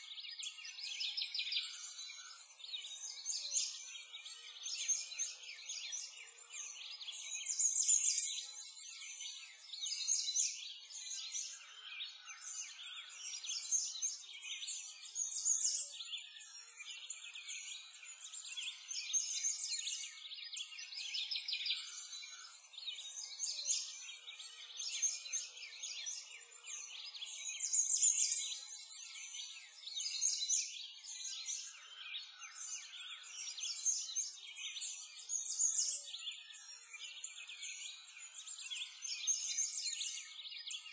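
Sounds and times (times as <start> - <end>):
birds chirping and twittering: 0.0 - 40.9.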